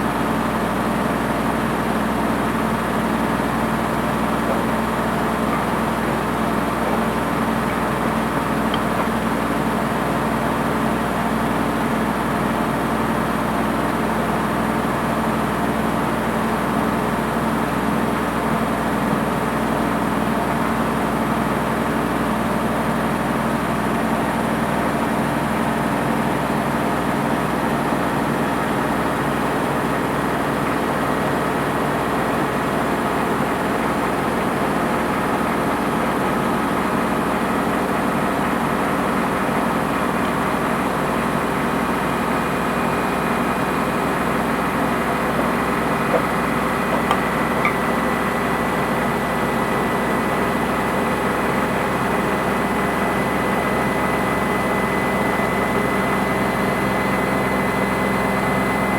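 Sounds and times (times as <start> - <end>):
washing machine motor hum: 0.0 - 58.9.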